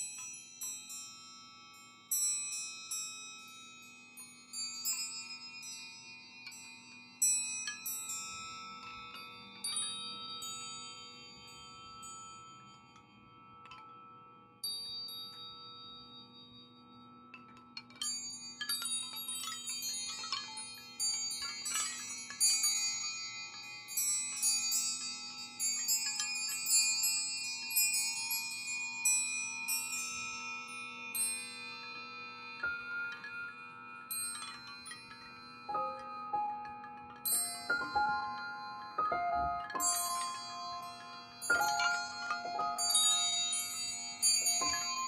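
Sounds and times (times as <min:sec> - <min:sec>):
wind chimes ringing: 0:00.0 - 0:45.0.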